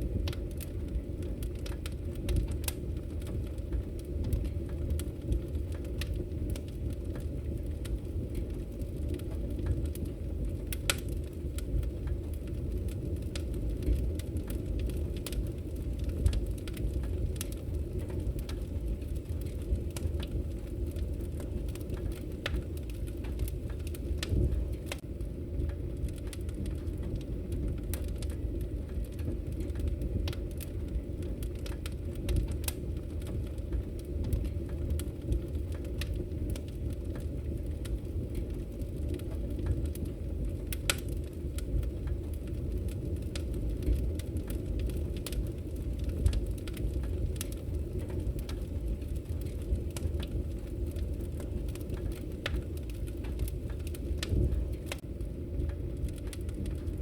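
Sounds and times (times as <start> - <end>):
wood fire burning: 0.0 - 57.0.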